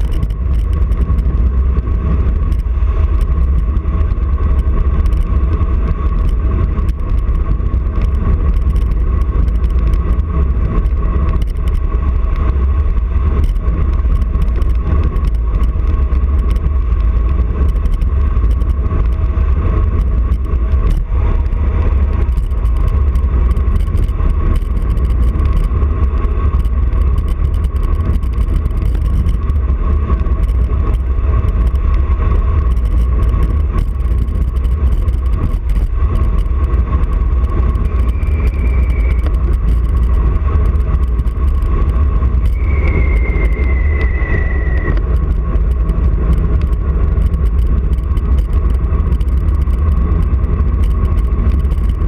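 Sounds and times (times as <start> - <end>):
steady high whine: 0.0 - 52.0
wind roaring over microphone: 0.0 - 52.0.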